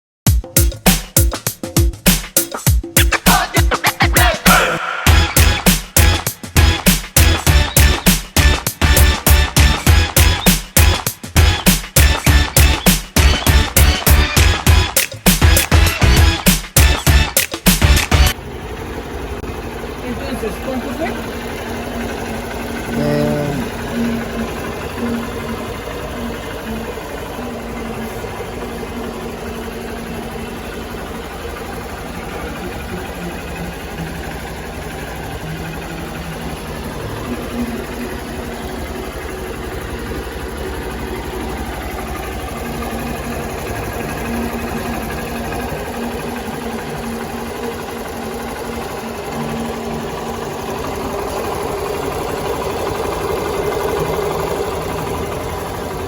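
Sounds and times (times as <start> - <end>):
motorcycle engine idling: 0.3 - 56.0.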